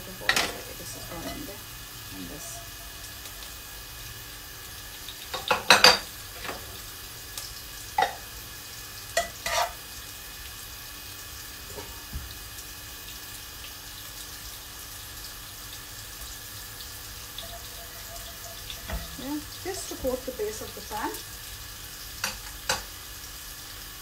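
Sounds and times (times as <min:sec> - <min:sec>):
ghee sizzling in frying pan: 0:00.0 - 0:24.0.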